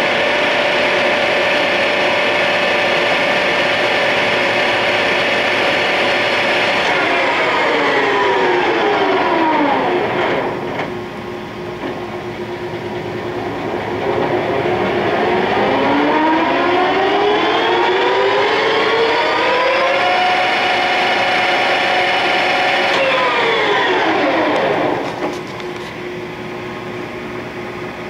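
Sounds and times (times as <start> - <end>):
lathe gear whine: 0.0 - 28.0.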